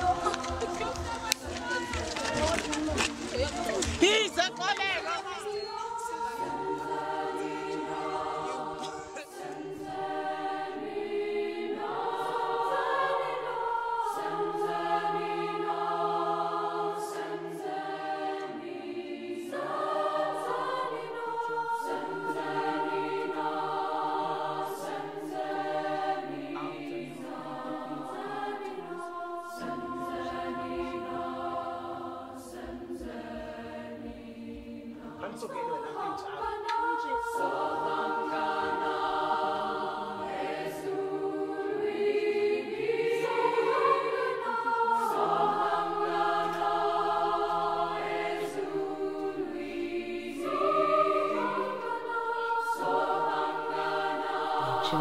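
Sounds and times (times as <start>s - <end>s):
choir singing sustained chords: 0.0s - 4.0s, 4.6s - 55.0s.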